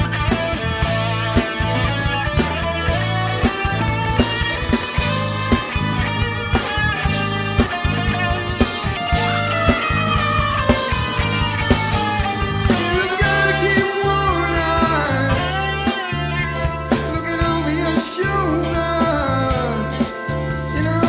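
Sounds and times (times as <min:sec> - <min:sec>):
electric guitar lead line bending: 0:00.0 - 0:21.0
rock band playing: 0:00.0 - 0:21.0.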